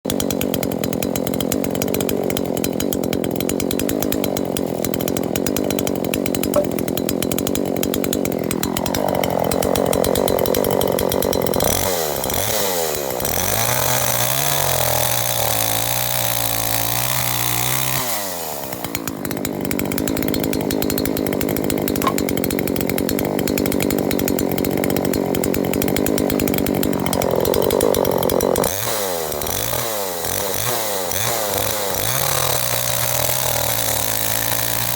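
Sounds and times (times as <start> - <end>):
chainsaw running: 0.0 - 34.9.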